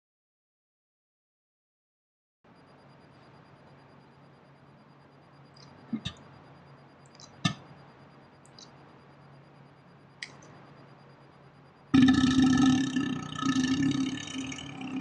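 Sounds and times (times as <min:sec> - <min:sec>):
faint steady hum: 0:02.5 - 0:15.0.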